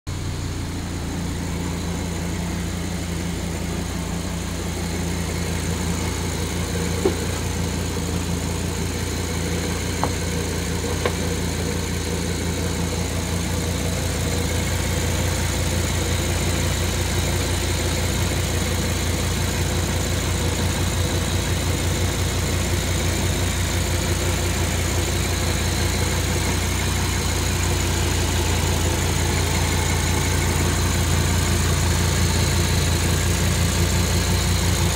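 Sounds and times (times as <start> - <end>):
car engine idling: 0.1 - 34.9.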